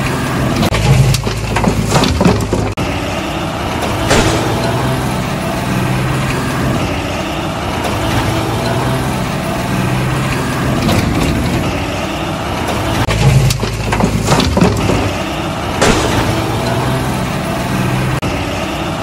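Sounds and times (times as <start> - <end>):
toy truck engine hum: 0.0 - 19.0.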